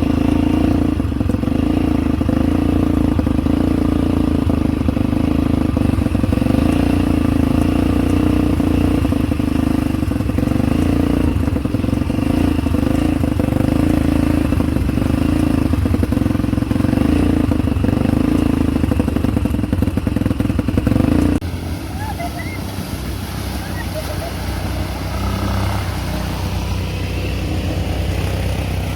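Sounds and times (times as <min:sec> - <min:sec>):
atv engine running: 0:00.0 - 0:28.9.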